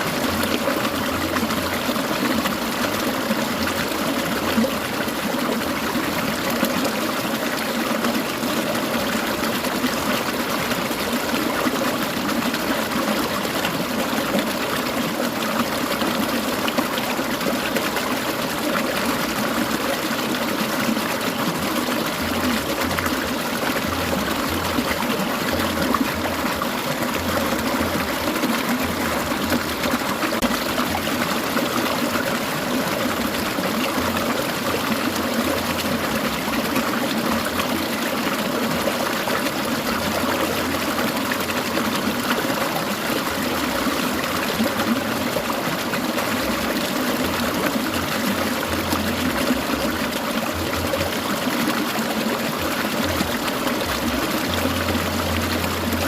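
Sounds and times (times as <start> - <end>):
stream gurgling over rocks: 0.0 - 56.0.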